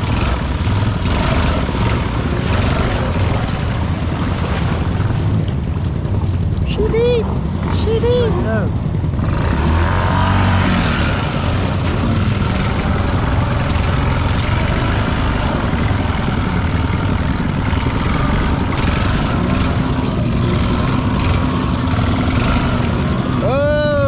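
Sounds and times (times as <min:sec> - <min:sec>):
atv engine running: 0:00.0 - 0:24.0
constant rushing noise: 0:00.0 - 0:24.0.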